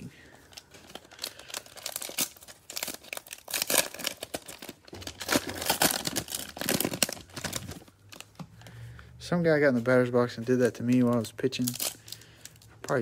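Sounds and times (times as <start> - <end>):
cellophane wrapper tearing and crinkling: 0.4 - 8.4, 10.3 - 13.0.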